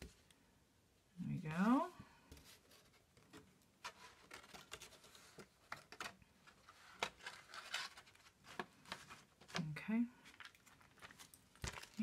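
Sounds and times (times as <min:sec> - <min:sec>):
paper rustling and tapping: 0:02.3 - 0:12.0.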